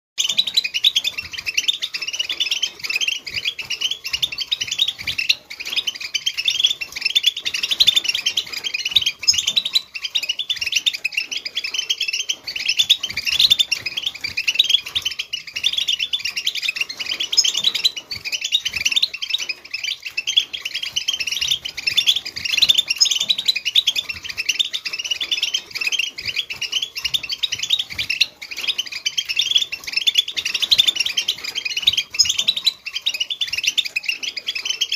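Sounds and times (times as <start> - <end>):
goldfinches twittering: 0.2 - 34.9.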